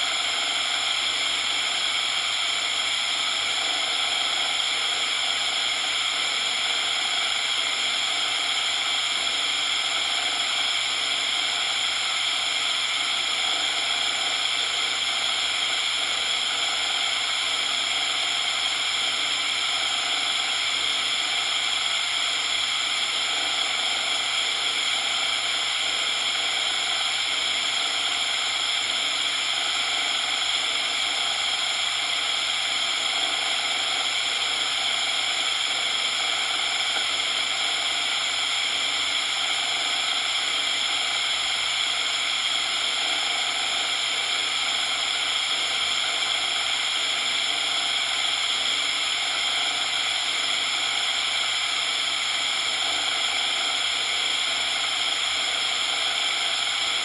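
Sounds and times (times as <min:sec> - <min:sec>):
steady synthetic hiss: 0:00.0 - 0:57.0.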